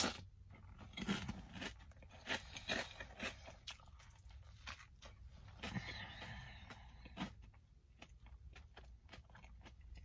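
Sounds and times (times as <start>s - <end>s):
person chewing a chip: 0.0s - 10.0s.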